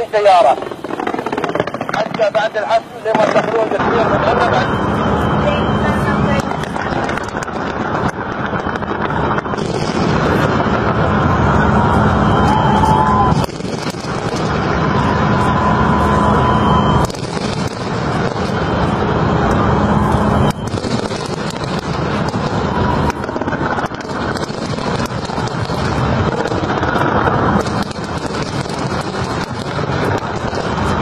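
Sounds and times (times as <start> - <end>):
fireworks crackling and rumbling: 0.0 - 31.0.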